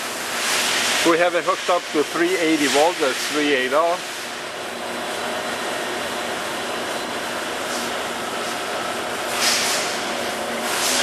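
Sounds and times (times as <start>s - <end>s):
lathe running with hum and hiss: 0.0s - 11.0s.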